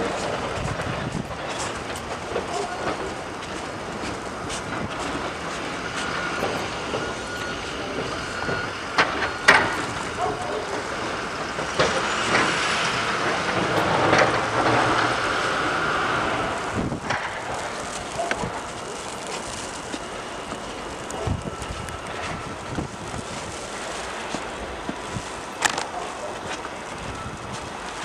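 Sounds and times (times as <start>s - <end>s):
heavy vehicle rumbling: 0.0s - 28.0s.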